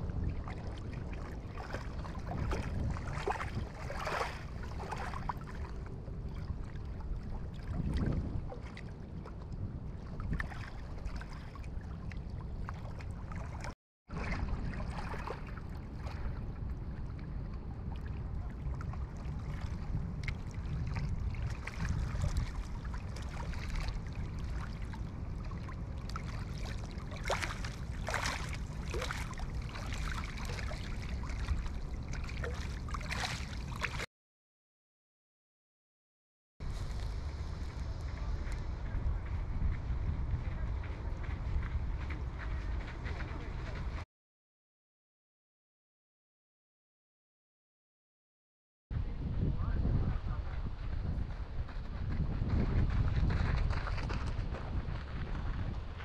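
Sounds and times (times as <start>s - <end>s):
wind buffeting microphone: 0.0s - 34.0s, 36.6s - 44.0s, 48.9s - 56.0s.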